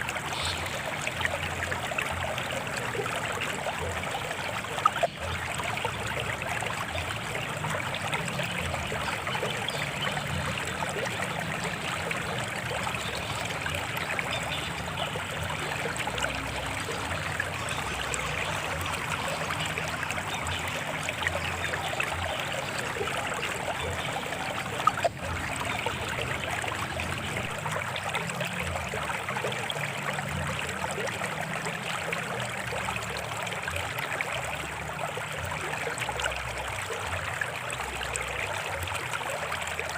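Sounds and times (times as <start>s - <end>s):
stream water flowing and trickling: 0.0s - 39.9s.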